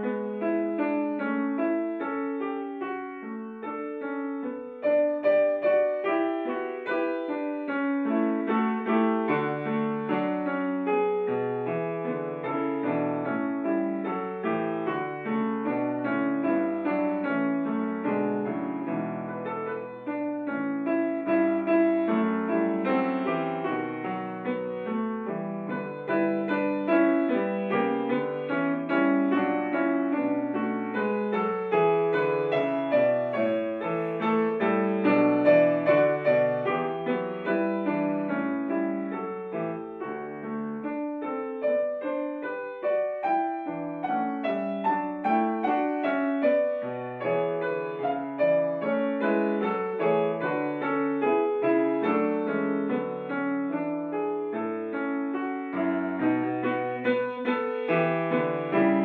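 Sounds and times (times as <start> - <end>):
classical piano piece: 0.0 - 59.0.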